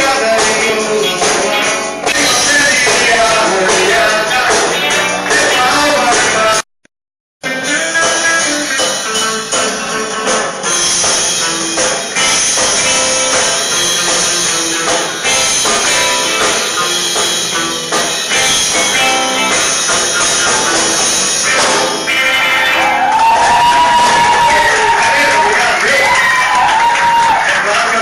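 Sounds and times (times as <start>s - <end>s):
band music: 0.0s - 6.6s, 7.4s - 28.0s
drums: 0.0s - 6.6s, 7.4s - 28.0s
guitar: 0.0s - 6.6s, 7.4s - 28.0s.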